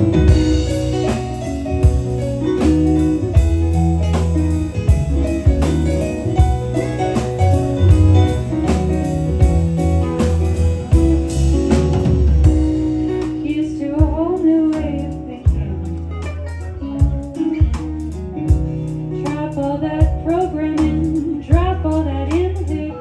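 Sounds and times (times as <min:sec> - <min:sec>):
bass line: 0:00.0 - 0:23.0
drums: 0:00.0 - 0:23.0
guitar: 0:00.0 - 0:23.0
live blues-rock band: 0:00.0 - 0:23.0.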